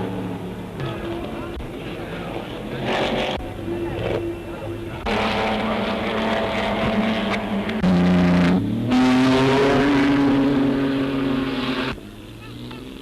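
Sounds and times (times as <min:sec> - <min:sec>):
racing car engines at high revs: 0:00.0 - 0:13.0.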